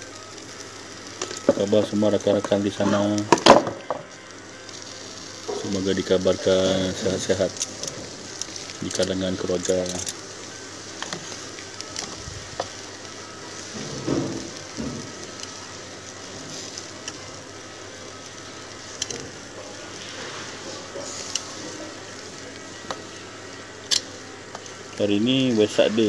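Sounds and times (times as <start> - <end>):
crackles and pops: 0.0 - 26.0
food sizzling on charcoal grill: 0.0 - 26.0.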